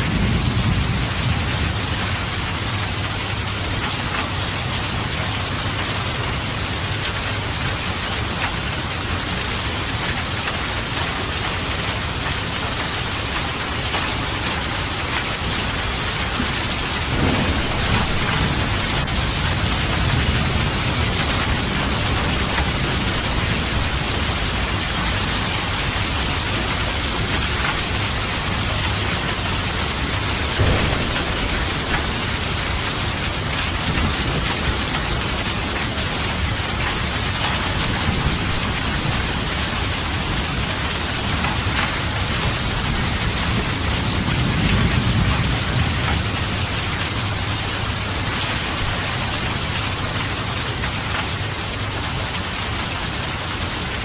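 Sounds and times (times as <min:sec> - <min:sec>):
low rumble of thunder: 0:00.0 - 0:53.6
heavy rain hissing: 0:00.0 - 0:54.0.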